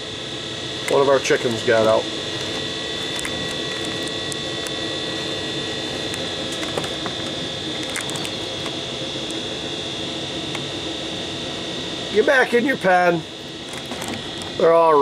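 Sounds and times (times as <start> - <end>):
high-pitched hum: 0.0 - 15.0.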